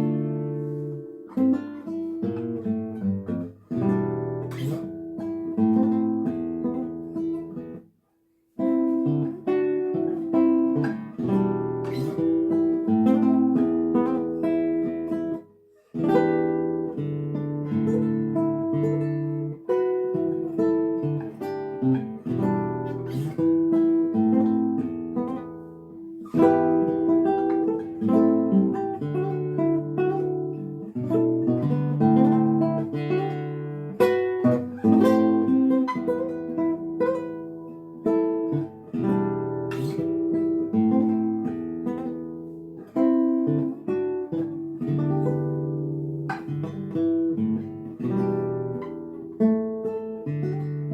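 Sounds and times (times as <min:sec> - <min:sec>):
acoustic guitar playing: 0:00.0 - 0:50.9.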